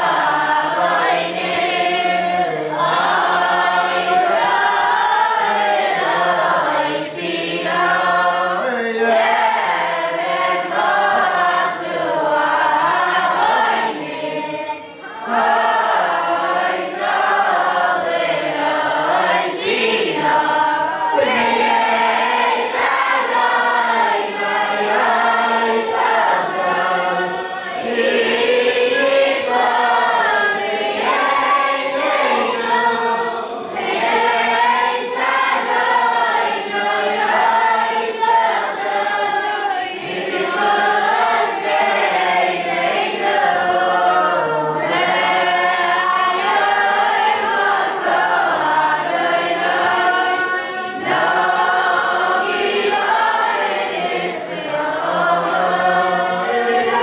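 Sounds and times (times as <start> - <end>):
boys chanting prayers in unison: 0.0 - 57.0.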